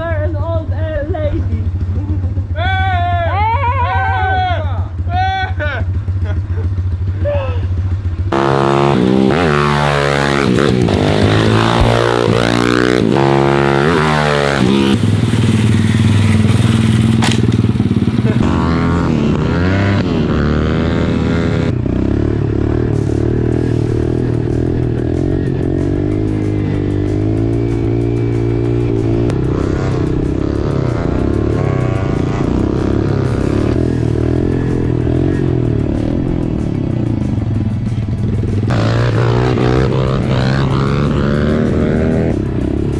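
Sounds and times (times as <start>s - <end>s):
motorcycle engine revving: 5.8s - 42.9s.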